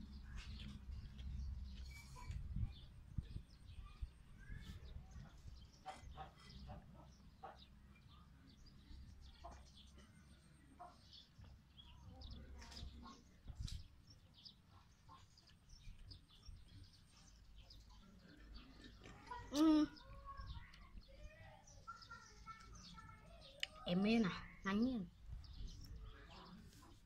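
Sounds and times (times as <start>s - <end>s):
faint bird chirps: 0.1s - 13.8s, 14.7s - 27.0s.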